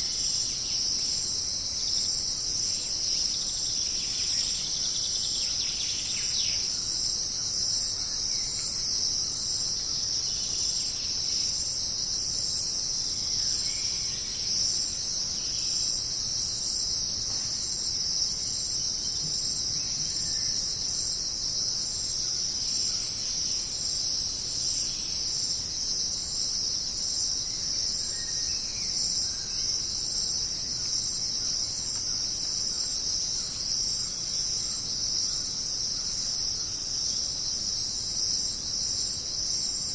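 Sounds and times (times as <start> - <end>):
faint insect chirps: 0.0 - 39.9
insect chorus drone: 0.0 - 39.9.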